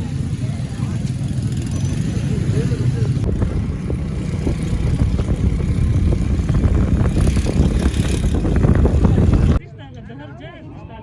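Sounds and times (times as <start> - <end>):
vehicle rumble: 0.0 - 9.6.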